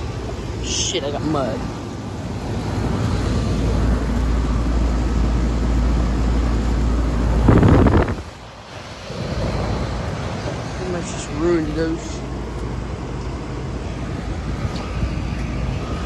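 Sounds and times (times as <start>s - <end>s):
air conditioner condenser rumble: 0.0s - 16.0s
wind buffeting microphone: 0.0s - 16.0s.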